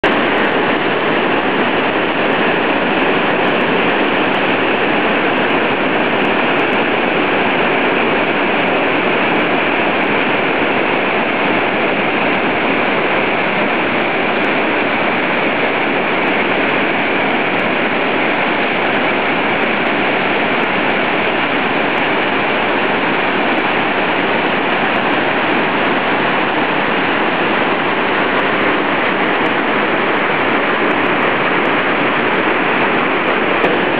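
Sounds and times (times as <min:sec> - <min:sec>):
mountain torrent rushing: 0:00.0 - 0:33.9.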